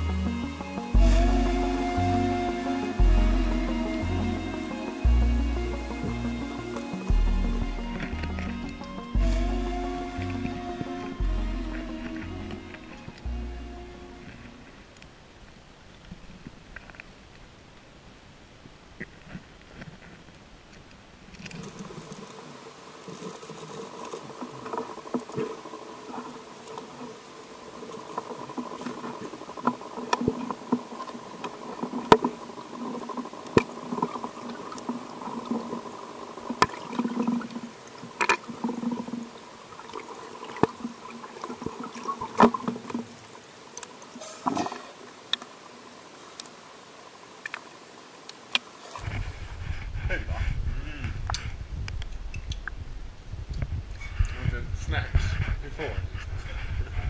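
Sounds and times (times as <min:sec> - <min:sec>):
muffled underwater water noise: 0:00.0 - 0:57.0.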